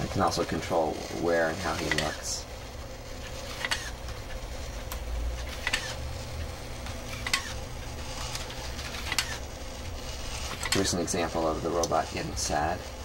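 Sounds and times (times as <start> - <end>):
electric motors humming: 0.0 - 13.0.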